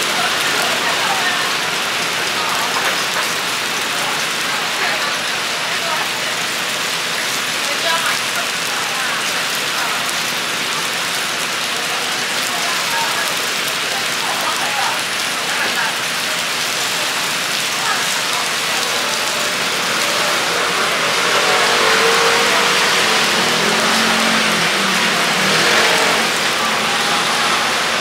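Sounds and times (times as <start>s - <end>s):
batter sizzling on a hot griddle: 0.0s - 28.0s.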